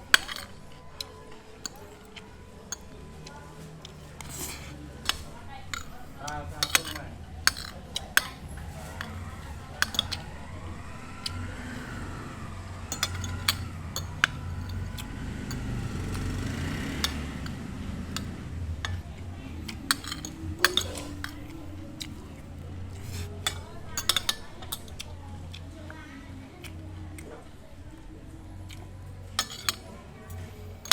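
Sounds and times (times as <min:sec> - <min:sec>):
cutlery and dishes clinking: 0:00.0 - 0:10.6, 0:12.9 - 0:25.2, 0:28.7 - 0:30.9
faint voices: 0:00.0 - 0:30.9.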